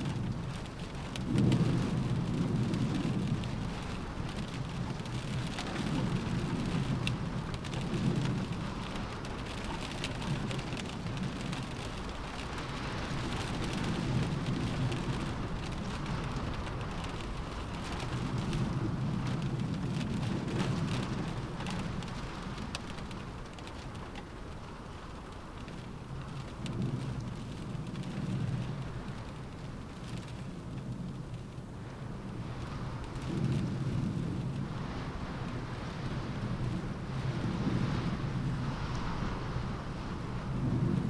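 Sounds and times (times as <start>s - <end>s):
low rumble of wind: 0.0s - 41.0s
rain hitting a window pane: 0.0s - 41.0s.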